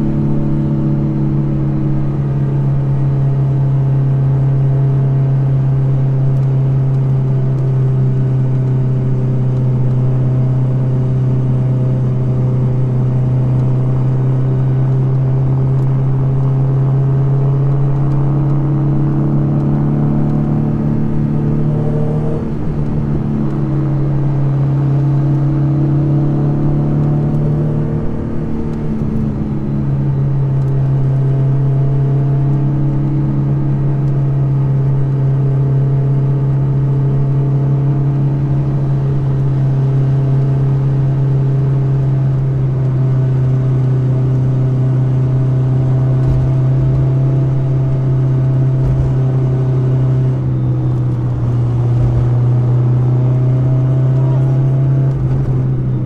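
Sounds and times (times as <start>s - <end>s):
car engine and exhaust droning: 0.0s - 56.0s.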